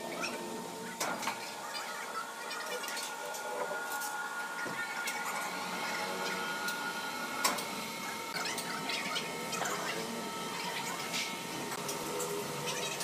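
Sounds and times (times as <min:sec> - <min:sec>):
sawmill machinery hum with whine: 0:00.0 - 0:13.0.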